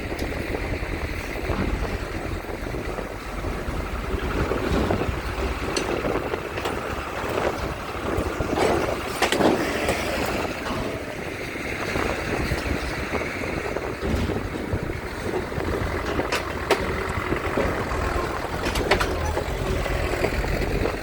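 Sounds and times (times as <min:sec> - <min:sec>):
engines rumbling: 0:00.0 - 0:21.0
wind buffeting microphone: 0:00.0 - 0:21.0.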